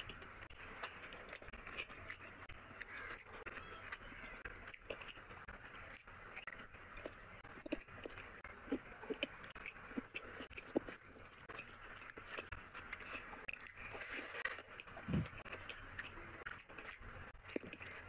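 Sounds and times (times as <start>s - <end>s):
mouth smacks and clicks: 0.0s - 18.0s
person chewing food: 0.0s - 18.0s.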